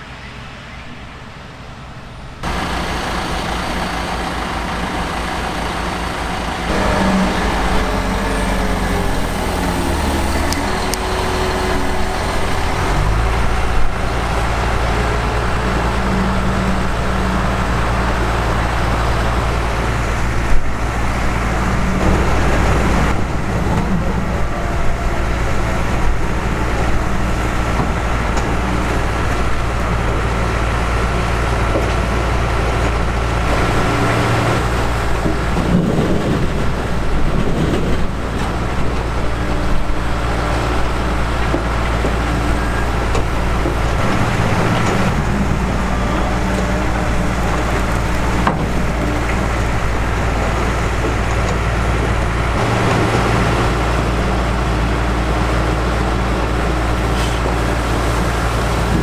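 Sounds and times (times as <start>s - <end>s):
heavy diesel machinery running: 2.2s - 59.0s.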